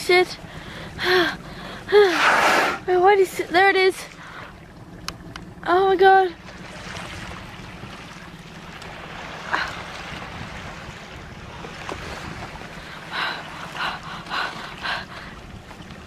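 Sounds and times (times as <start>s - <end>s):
steady low hum: 0.0s - 16.0s
water lapping against boat hull: 0.0s - 16.0s
water splashes: 0.0s - 16.0s.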